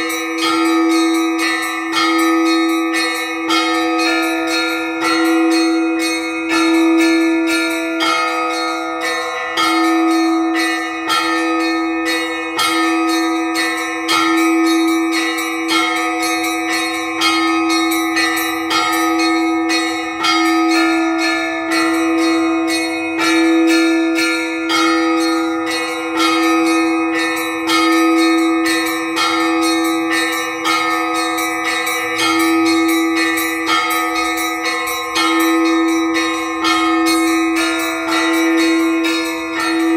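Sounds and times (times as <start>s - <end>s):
deep bell ringing: 0.0s - 39.9s
small high bells striking: 0.0s - 39.9s.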